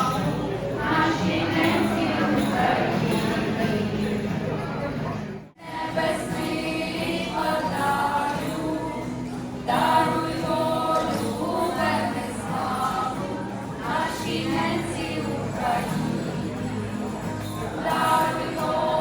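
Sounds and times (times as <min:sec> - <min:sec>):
choir singing: 0:00.8 - 0:04.0, 0:05.6 - 0:16.8, 0:17.8 - 0:19.0.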